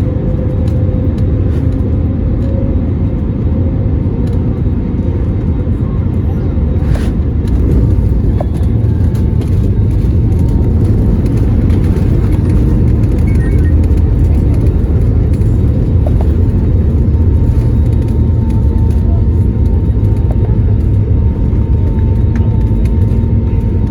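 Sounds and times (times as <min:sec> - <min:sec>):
vehicle rumble from inside cabin: 0:00.0 - 0:23.9.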